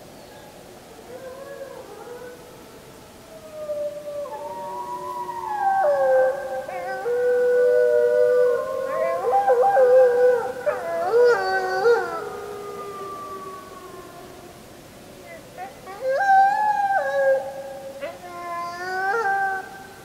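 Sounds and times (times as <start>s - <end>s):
wolves howling in chorus: 1.0s - 14.7s, 15.3s - 20.0s.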